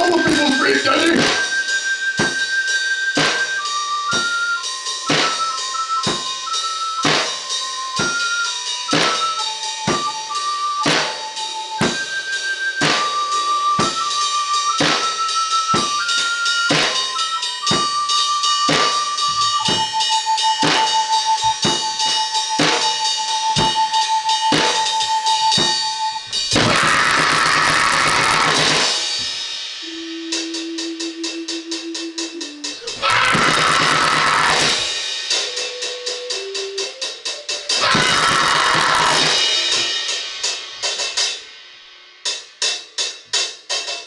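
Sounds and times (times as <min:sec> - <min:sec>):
drum kit beat: 0:00.0 - 0:44.0.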